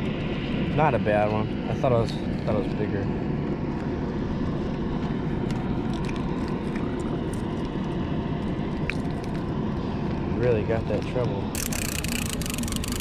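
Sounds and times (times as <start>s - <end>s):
power plant drone: 0.0s - 13.0s.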